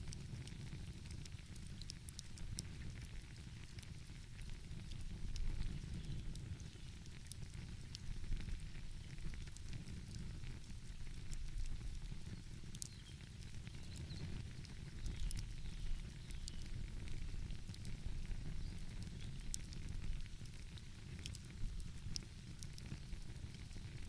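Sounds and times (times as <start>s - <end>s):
wind: 0.0s - 24.0s
wood fire crackling: 0.0s - 24.0s.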